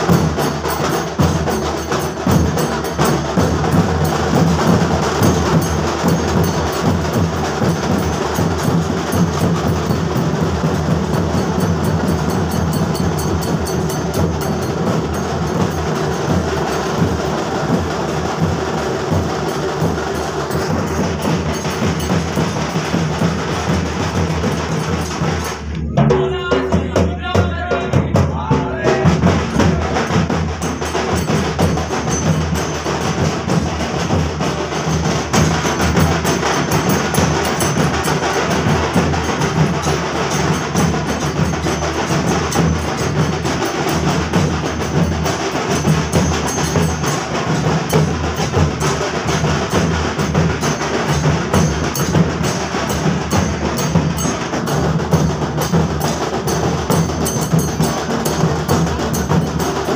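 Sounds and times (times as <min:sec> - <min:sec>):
drum-led percussion music: 0:00.0 - 0:59.9.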